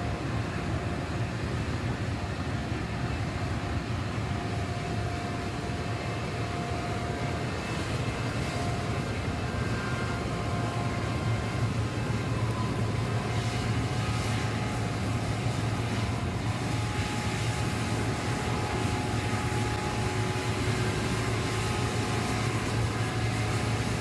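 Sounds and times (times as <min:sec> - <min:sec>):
heavy machine engine droning: 0:00.0 - 0:24.0.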